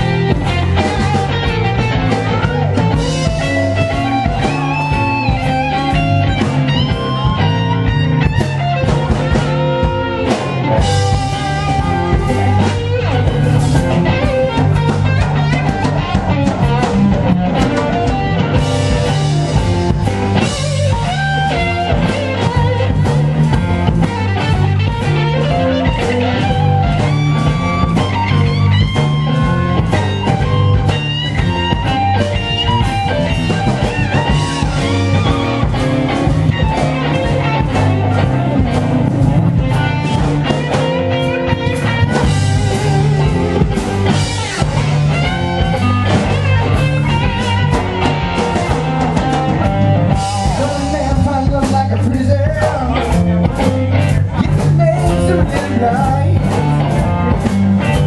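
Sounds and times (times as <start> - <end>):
blues-rock band playing: 0.0 - 58.0
electric guitar lines: 0.0 - 58.0.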